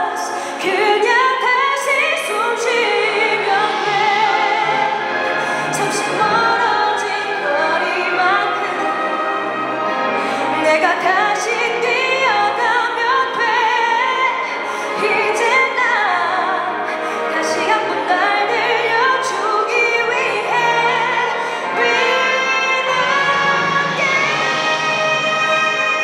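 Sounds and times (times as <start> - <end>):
woman singing into a microphone: 0.0 - 4.8, 5.6 - 9.5, 10.2 - 26.0
orchestra playing: 0.1 - 26.0.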